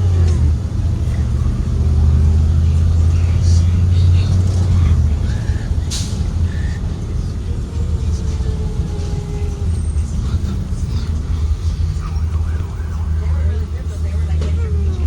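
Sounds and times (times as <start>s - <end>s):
bus engine and road drone: 0.0s - 15.0s.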